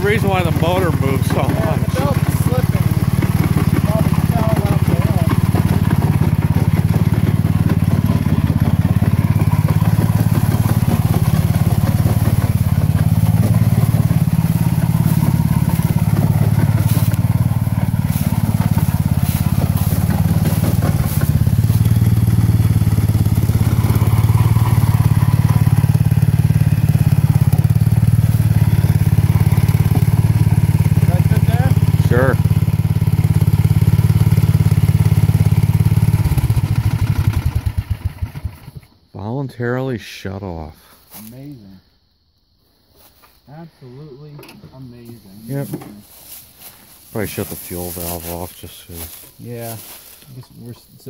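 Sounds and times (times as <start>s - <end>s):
lawn tractor engine running: 0.0s - 38.9s, 45.5s - 50.4s.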